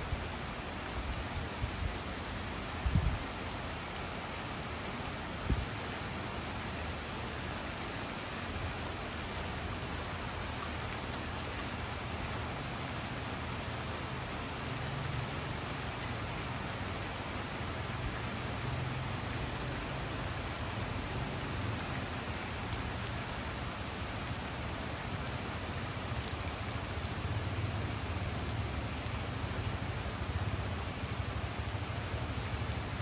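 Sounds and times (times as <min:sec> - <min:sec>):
rain falling on leaves: 0:00.0 - 0:33.0.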